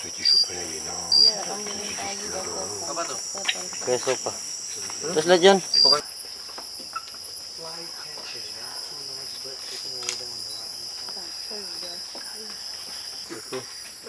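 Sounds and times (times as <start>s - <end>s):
crickets and katydids trilling: 0.0s - 14.0s.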